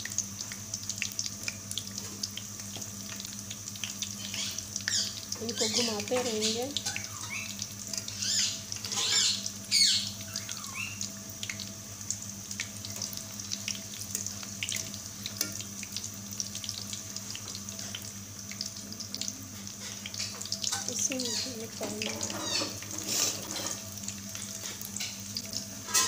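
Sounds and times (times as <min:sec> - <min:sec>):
oil bubbling and crackling: 0:00.0 - 0:26.0.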